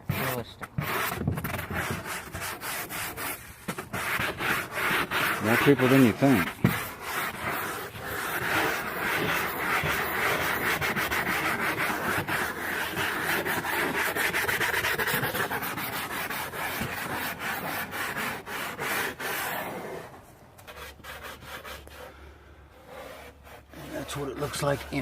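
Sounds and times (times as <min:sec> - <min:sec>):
rough rubbing and scraping: 0:00.0 - 0:22.1, 0:22.7 - 0:25.0.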